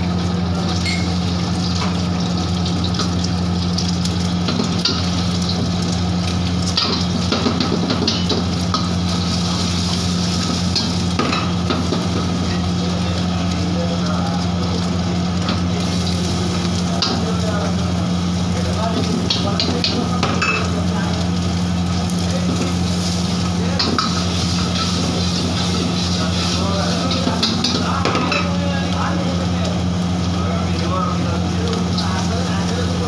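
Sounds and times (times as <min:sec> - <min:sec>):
egg sizzling in hot oil: 0:00.0 - 0:33.0.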